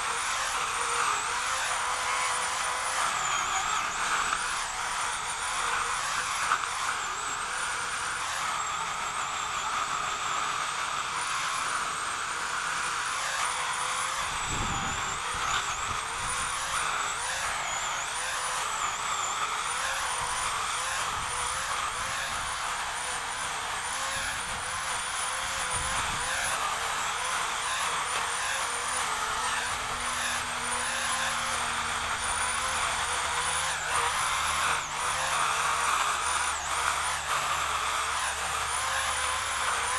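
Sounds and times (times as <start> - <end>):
power saw whining: 0.0 - 39.9.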